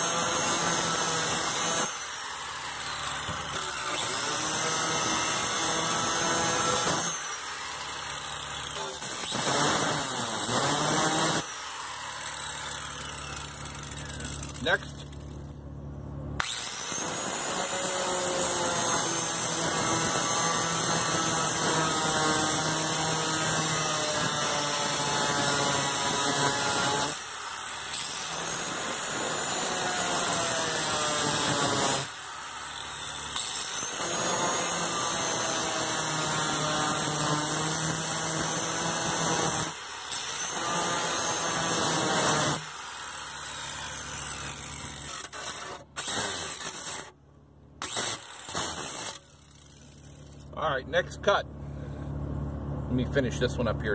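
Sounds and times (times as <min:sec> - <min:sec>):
cut-off tool cutting steel: 0:00.0 - 0:15.6, 0:16.4 - 0:47.2, 0:47.8 - 0:50.6.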